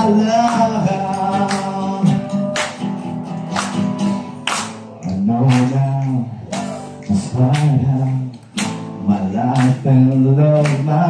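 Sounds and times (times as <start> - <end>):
man singing: 0.0 - 3.0, 4.7 - 11.0
acoustic guitar strumming: 0.0 - 11.0.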